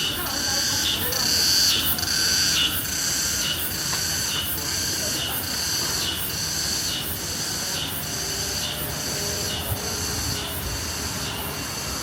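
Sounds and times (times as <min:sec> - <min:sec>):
cicadas buzzing: 0:00.0 - 0:12.0
street traffic hum: 0:00.0 - 0:12.0.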